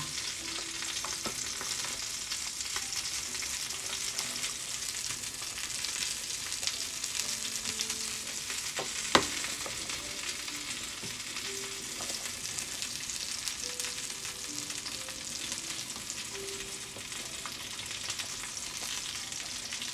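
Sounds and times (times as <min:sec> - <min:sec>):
soup simmering and bubbling: 0:00.0 - 0:19.9.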